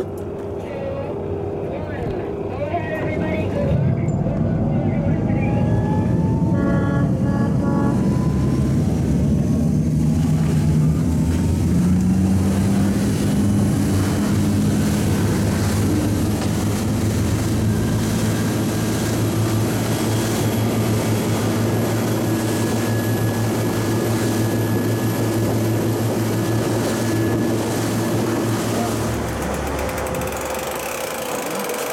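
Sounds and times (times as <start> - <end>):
boat engines droning: 0.0 - 31.9
water rushing past hull: 1.2 - 31.9.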